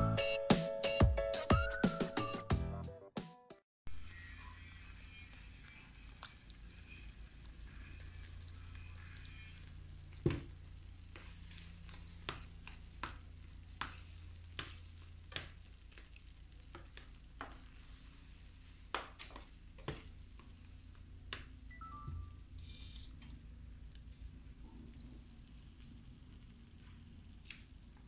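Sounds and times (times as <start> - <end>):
faint sizzling: 3.9 - 28.0
low steady hum: 4.0 - 28.0.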